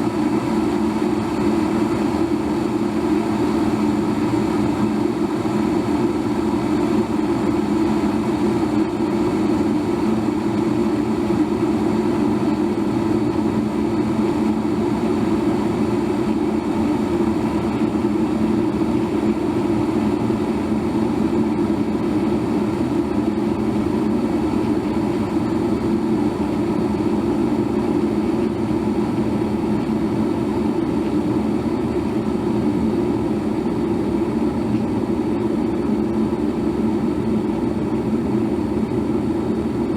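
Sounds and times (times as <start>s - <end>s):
electric kettle boiling: 0.0s - 39.9s.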